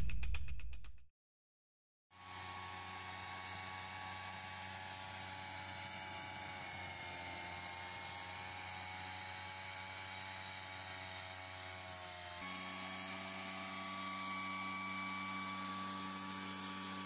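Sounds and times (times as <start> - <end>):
small engine and blower whining: 2.1 - 17.0.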